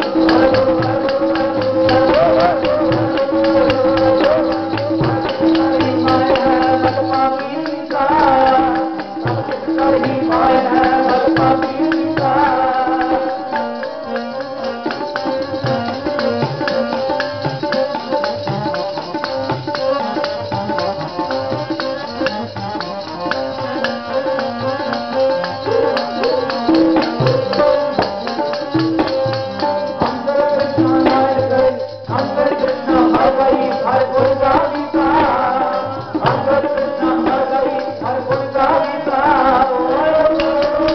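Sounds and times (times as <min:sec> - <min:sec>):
jingling percussion: 0:00.0 - 0:40.9
man singing: 0:00.0 - 0:40.9.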